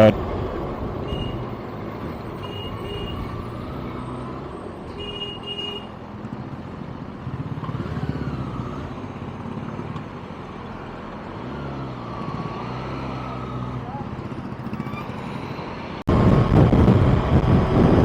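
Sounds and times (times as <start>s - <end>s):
traffic hum: 0.0s - 18.0s.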